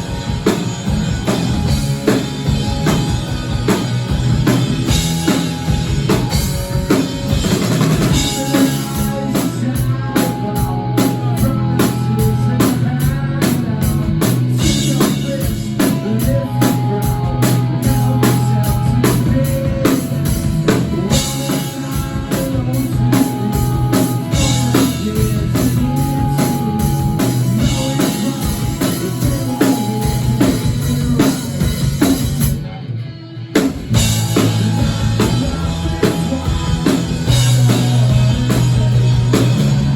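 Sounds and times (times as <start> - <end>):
drum kit beat: 0.0 - 32.6, 33.6 - 39.9
live rock band playing: 0.0 - 39.9.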